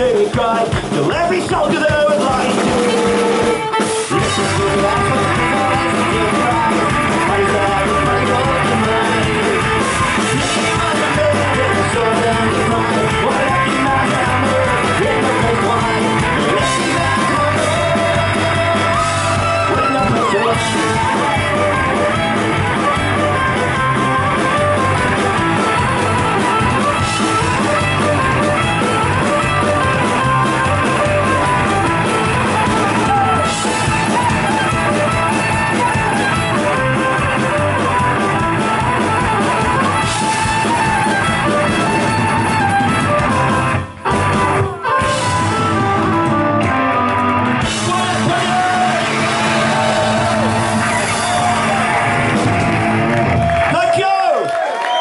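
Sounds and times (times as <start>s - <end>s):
strummed guitars: 0.0s - 53.8s
drum kit: 0.0s - 53.9s
bowed fiddle melody: 2.9s - 51.9s.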